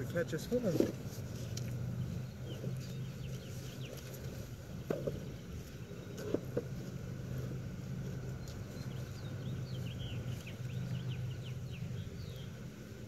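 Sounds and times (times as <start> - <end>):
steady low hum: 0.0 - 13.0
small bird chirping: 1.6 - 12.7.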